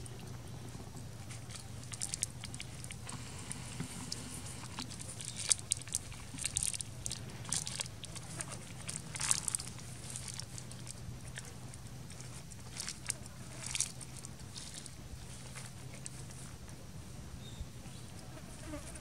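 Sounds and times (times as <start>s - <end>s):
crackles and crunches on dry ground: 0.0s - 17.1s
steady low hum: 0.0s - 19.0s.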